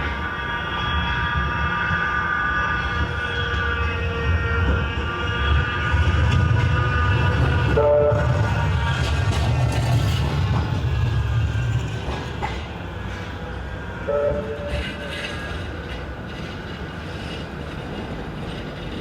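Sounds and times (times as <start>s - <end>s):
tram rumbling on track: 0.0s - 19.0s.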